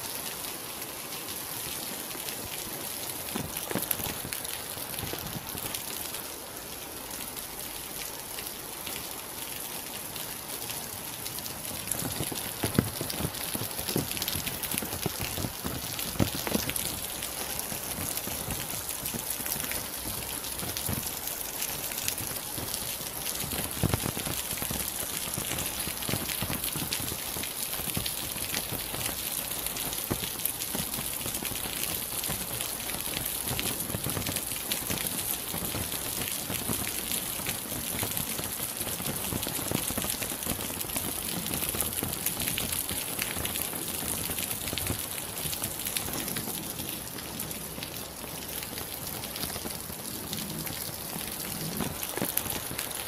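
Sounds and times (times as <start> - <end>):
steady rain falling: 0.0 - 53.0
raindrops tapping on a surface: 0.4 - 6.2, 9.9 - 53.0.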